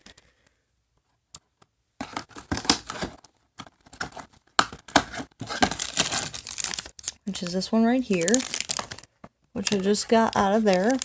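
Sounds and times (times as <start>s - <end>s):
packaging crinkling and tearing: 2.0s - 11.0s.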